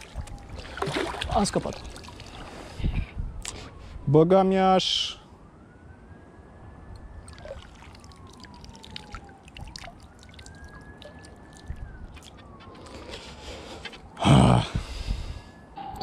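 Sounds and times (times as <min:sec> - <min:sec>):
distant siren wailing: 0:00.0 - 0:16.0.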